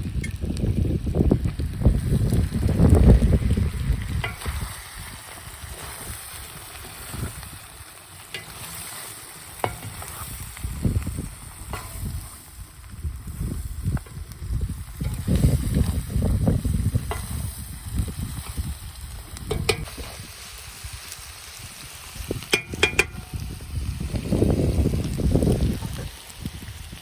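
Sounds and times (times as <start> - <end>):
wind rumbling on microphone: 0.0 - 7.9, 9.6 - 27.0
food sizzling in pot: 0.0 - 27.0.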